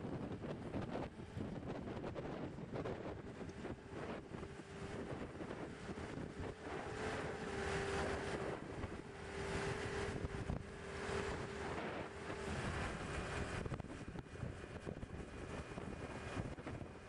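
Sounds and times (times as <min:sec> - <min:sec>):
steady hum: 0:00.0 - 0:17.0
wind buffeting microphone: 0:00.0 - 0:17.0.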